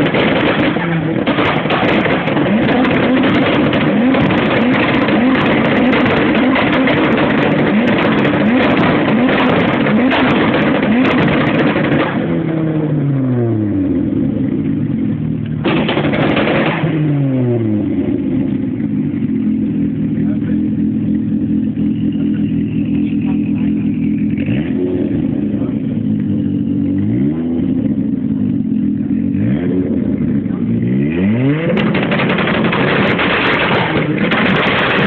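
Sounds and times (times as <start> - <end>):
car engine revving hard: 0.0 - 14.7, 15.6 - 35.0.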